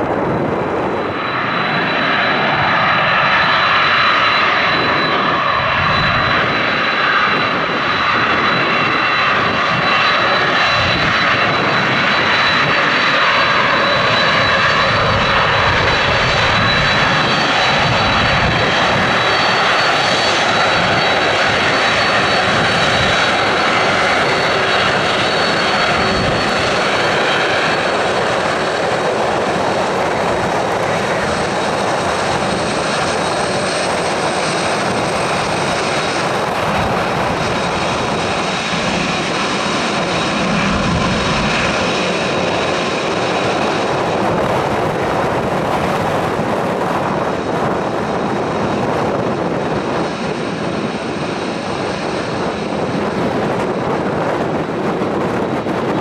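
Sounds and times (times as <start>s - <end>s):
jet engines roaring with fan whine: 0.0s - 56.0s
wind rumbling on microphone: 0.0s - 56.0s.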